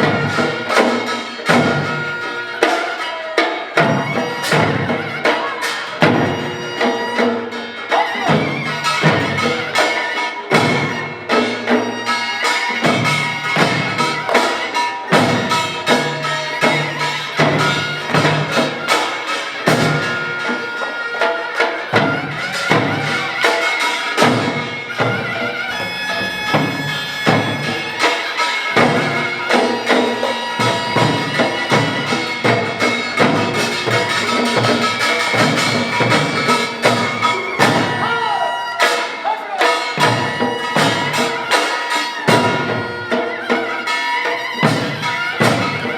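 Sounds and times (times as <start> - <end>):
rapid drum and gong strikes: 0.0 - 2.8, 3.7 - 20.6, 21.6 - 38.2, 38.8 - 45.9
shrill shawm melody: 0.0 - 45.9.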